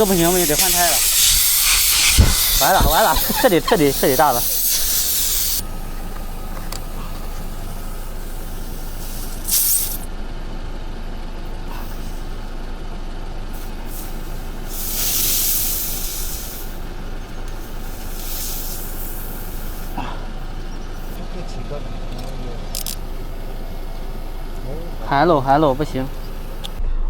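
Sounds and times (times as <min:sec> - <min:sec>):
air hissing out of tyre: 0:00.0 - 0:10.1, 0:11.4 - 0:21.3, 0:22.7 - 0:26.8.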